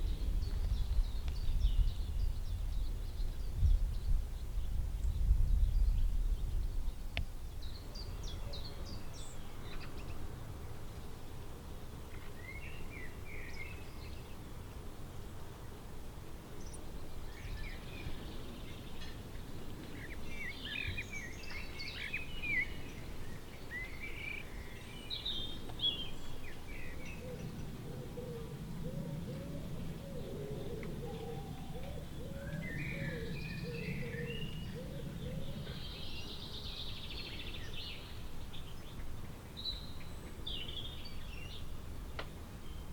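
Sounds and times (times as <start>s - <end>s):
outdoor background hiss: 0.0s - 42.9s.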